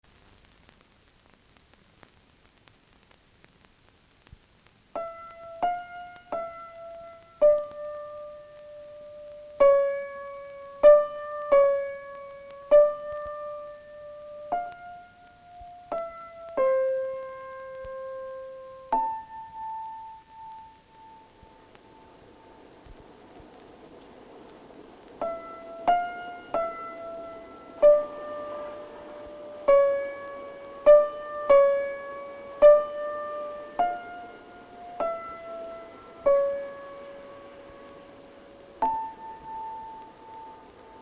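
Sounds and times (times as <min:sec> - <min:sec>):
slow piano-like melody: 0:04.9 - 0:41.0.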